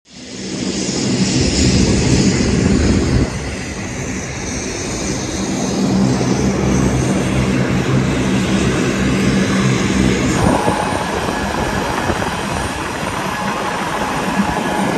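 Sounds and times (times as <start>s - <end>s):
jet engines running: 0.1s - 14.9s.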